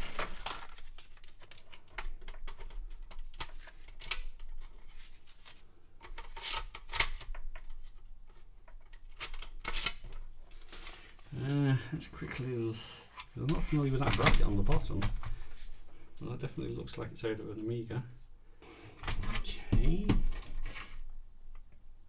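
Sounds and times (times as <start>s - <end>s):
wrapping rustling: 0.0s - 17.7s.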